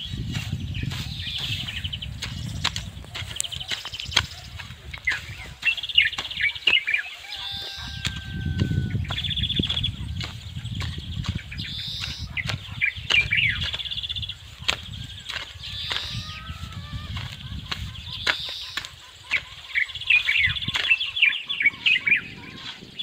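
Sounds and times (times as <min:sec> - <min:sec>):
hoe chopping dry soil: 0:00.0 - 0:23.0
songbird trilling: 0:00.0 - 0:23.0.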